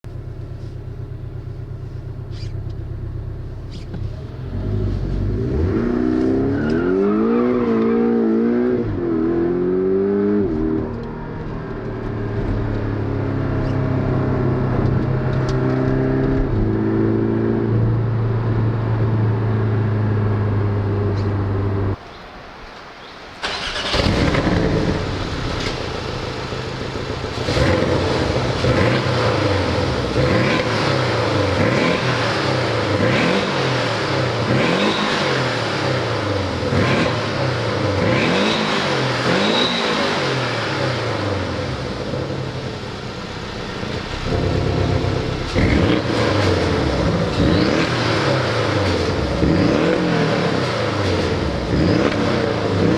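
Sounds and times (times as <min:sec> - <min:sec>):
car engine revving: 0:00.1 - 0:22.0, 0:23.4 - 0:52.9.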